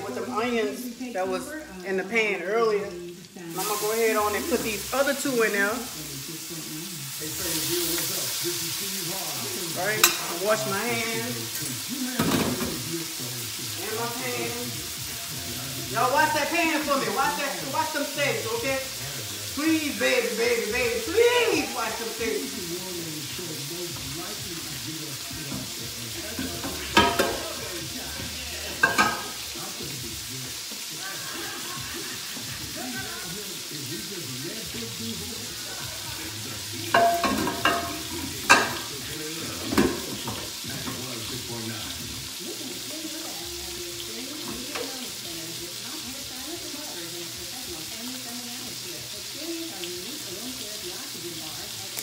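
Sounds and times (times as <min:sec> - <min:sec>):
faint voices: 0:00.0 - 0:52.0
food sizzling in a pan: 0:00.0 - 0:52.0.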